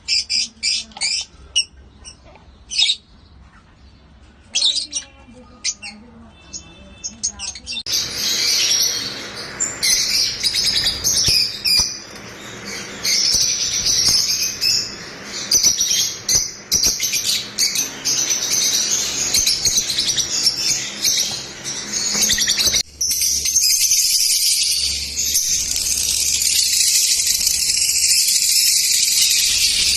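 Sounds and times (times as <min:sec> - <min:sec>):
lovebirds chirping: 0:00.0 - 0:29.9.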